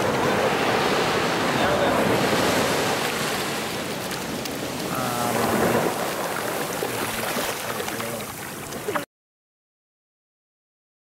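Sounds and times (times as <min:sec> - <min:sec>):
waves washing up a sandy beach: 0:00.0 - 0:09.0.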